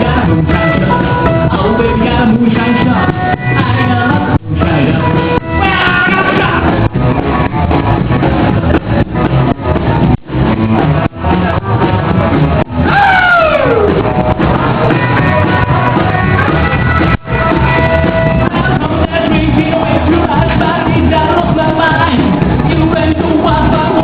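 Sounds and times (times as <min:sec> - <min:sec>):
electric guitar: 0:00.0 - 0:24.0
rock and roll band playing: 0:00.0 - 0:24.0.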